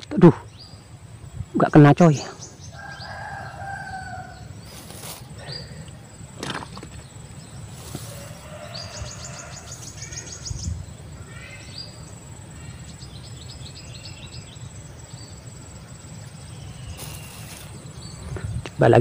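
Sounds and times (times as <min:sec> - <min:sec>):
small birds calling: 0:00.0 - 0:19.0.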